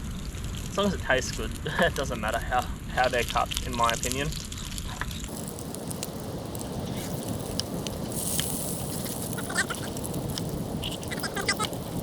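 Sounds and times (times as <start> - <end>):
steady hiss: 0.7 - 12.0.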